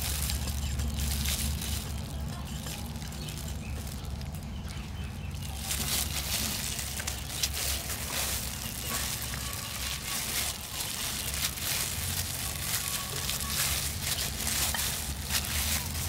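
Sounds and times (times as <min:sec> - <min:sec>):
plastic gloves crinkling: 0:00.0 - 0:16.0
raw chicken squishing wetly: 0:00.0 - 0:16.0
steady low rumble: 0:00.0 - 0:16.0.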